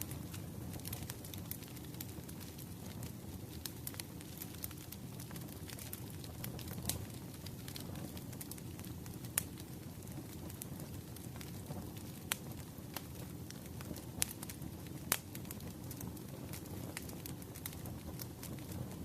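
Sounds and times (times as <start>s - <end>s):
firewood burning and crackling: 0.0s - 19.0s.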